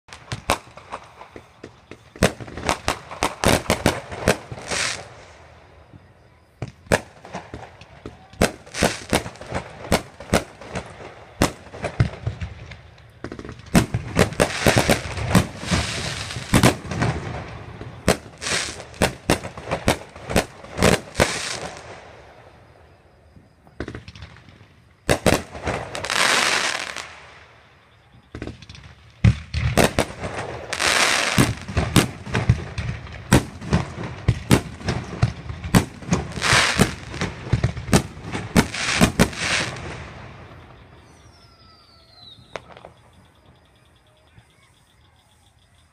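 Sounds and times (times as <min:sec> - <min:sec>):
fireworks bangs and cracks: 0:00.1 - 0:22.6, 0:23.6 - 0:27.6, 0:28.2 - 0:41.3, 0:42.2 - 0:43.6
fireworks hissing and crackling: 0:00.1 - 0:43.7.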